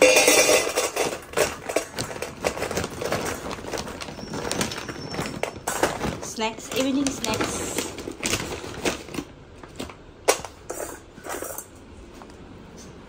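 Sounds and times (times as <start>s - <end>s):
dog biscuits clattering into metal bowl: 0.0s - 11.7s.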